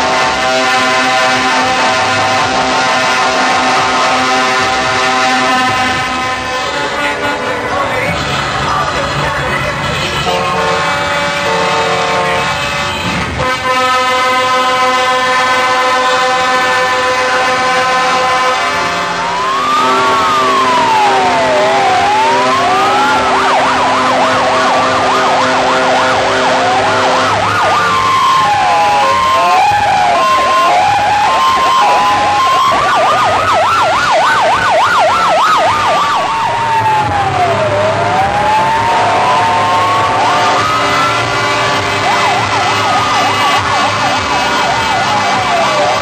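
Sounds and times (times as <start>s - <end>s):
electronic vehicle siren: 0.0s - 7.1s, 10.0s - 46.0s.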